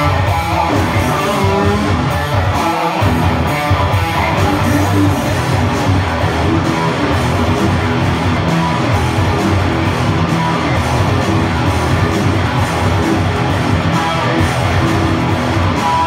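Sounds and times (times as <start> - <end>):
electric guitar: 0.0 - 16.0.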